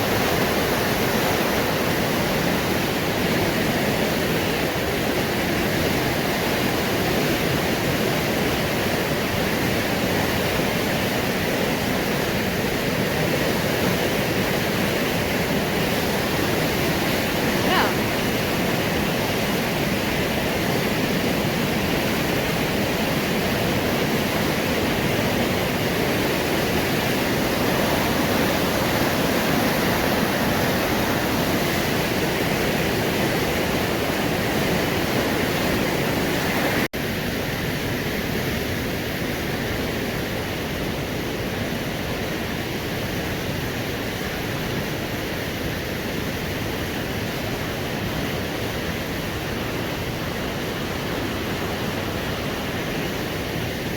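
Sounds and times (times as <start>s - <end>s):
river rapids rushing: 0.0s - 53.9s.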